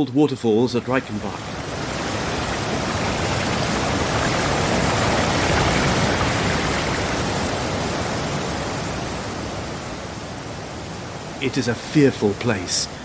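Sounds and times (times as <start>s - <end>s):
waterfall rushing: 0.8s - 13.0s.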